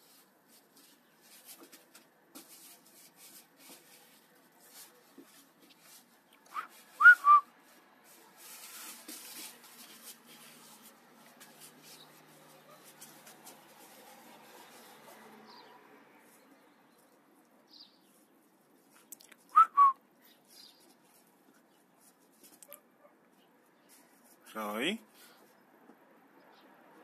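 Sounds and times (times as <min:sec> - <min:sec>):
scuffling and rustling: 0:00.0 - 0:19.1, 0:20.2 - 0:24.6.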